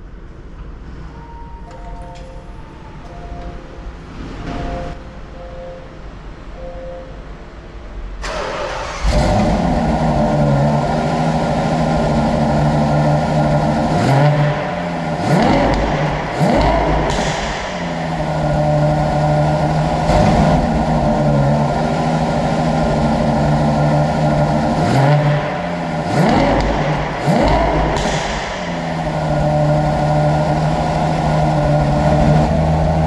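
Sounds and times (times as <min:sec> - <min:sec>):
car engine idling and revving: 0:00.0 - 0:05.1, 0:08.2 - 0:33.0.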